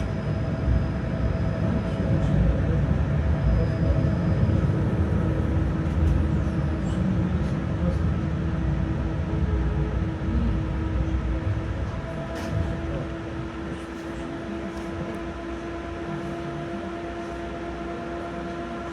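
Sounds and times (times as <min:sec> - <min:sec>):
tram wheels rumbling on rail: 0:00.0 - 0:18.9.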